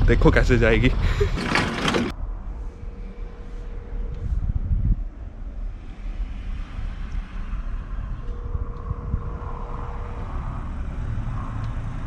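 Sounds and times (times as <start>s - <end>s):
car engine low rumble: 0.0s - 12.0s
wind noise on microphone: 0.0s - 12.0s.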